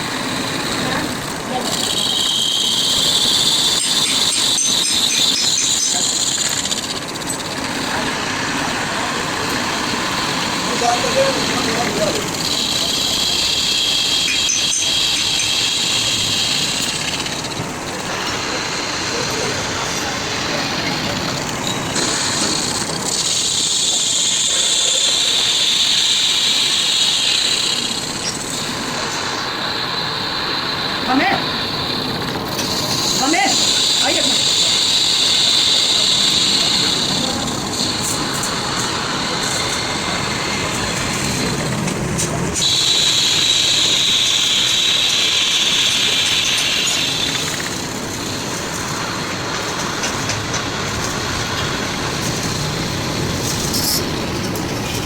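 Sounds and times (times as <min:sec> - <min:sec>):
high-pitched mechanical hiss: 0:00.0 - 0:55.0.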